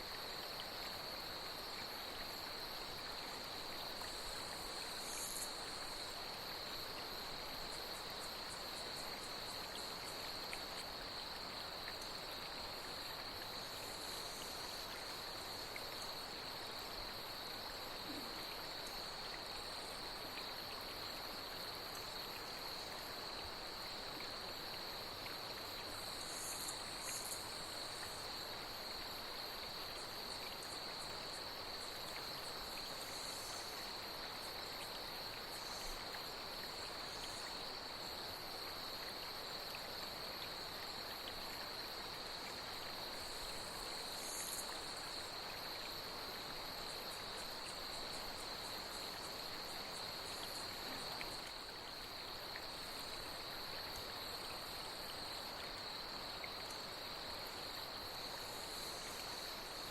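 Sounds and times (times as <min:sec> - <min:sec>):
flowing water: 0:00.0 - 0:59.9
insects trilling: 0:00.0 - 0:59.9.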